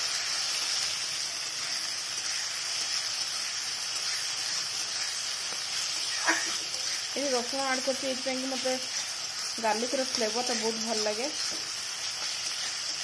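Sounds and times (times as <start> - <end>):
onion sizzling in hot oil: 0.0 - 13.0
spatula stirring: 1.5 - 13.0.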